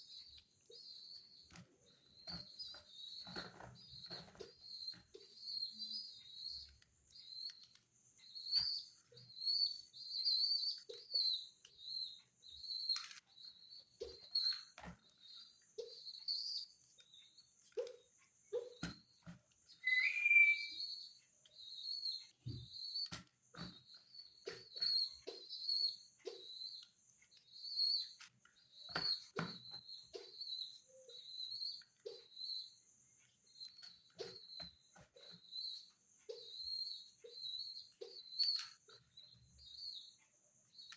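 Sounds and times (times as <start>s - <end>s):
pigeon squab peeping: 0.0s - 32.8s, 33.4s - 40.9s.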